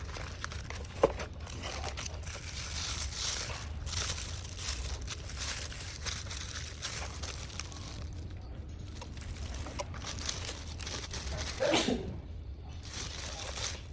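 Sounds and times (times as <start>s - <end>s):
packaging rustling and crinkling: 0.0s - 12.0s, 12.6s - 13.9s
steady low hum: 0.0s - 13.9s.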